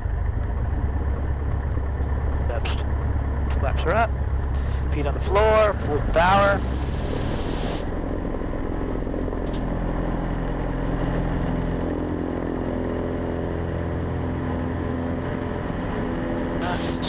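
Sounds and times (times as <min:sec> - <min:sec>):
small plane engine drone: 0:00.0 - 0:17.0.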